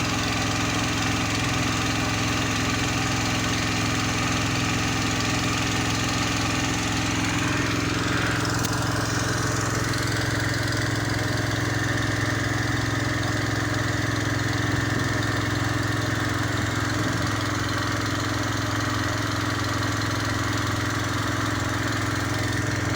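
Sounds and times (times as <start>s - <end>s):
engine running steadily: 0.0s - 22.9s.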